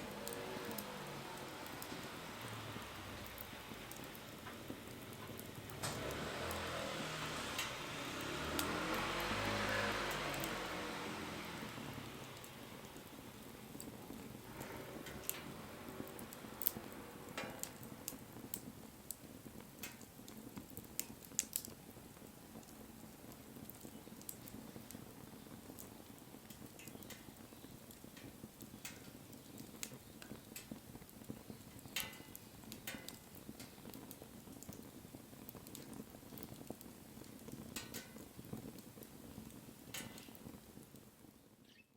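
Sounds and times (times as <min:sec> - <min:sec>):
low rush of flames: 0:00.0 - 0:41.7
wood fire crackling: 0:00.0 - 0:41.9.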